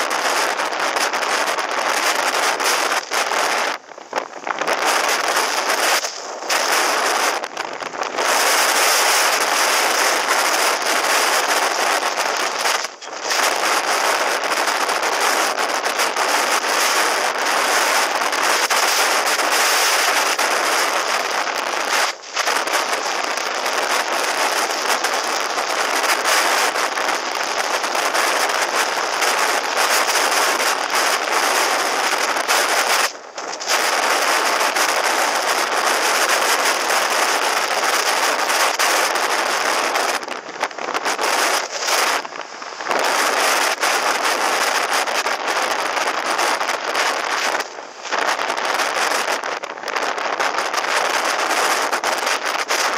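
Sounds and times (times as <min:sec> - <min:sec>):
crackling wind noise: 0:00.0 - 0:52.9.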